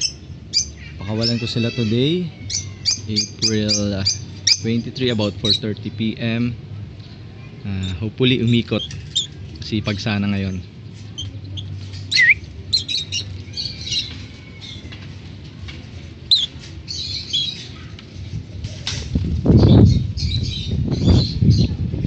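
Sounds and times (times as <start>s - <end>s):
birds chirping and squawking: 0.0s - 21.9s.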